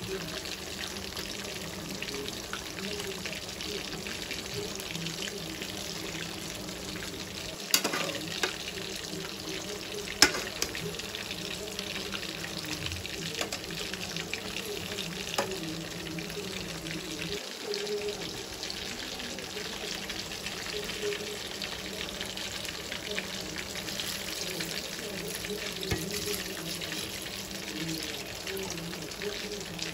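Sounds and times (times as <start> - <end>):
gravy simmering with crackling pops: 0.0 - 29.9.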